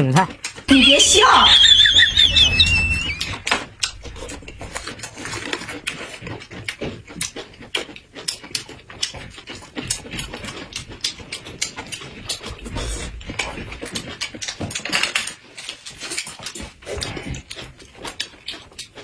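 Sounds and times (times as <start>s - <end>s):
crisp chewing crunches: 0.0s - 0.7s, 1.6s - 19.0s
wet mouth clicks: 0.2s - 0.7s, 2.8s - 14.9s, 15.5s - 19.0s.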